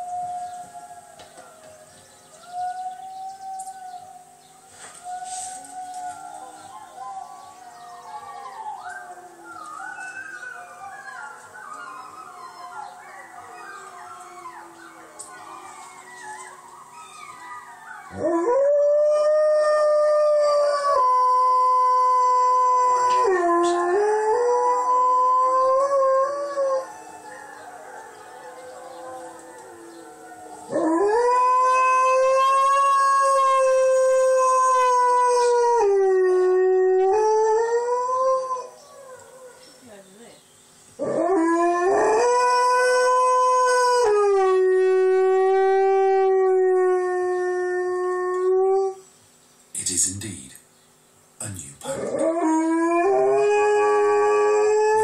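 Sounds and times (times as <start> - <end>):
wolf howls from television: 0.0 - 39.8, 41.0 - 49.0, 51.8 - 55.0
dog howling: 5.0 - 40.0, 41.0 - 49.0, 51.8 - 55.0.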